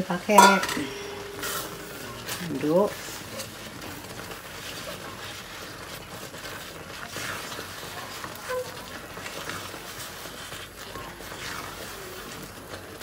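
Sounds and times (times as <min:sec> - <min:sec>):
spatula scraping wok: 0:00.3 - 0:13.0.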